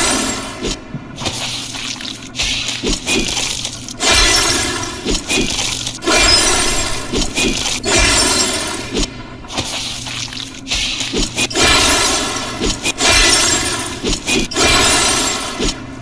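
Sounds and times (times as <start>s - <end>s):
glassy crackling shattering bursts: 1.6s - 9.0s, 9.8s - 15.8s.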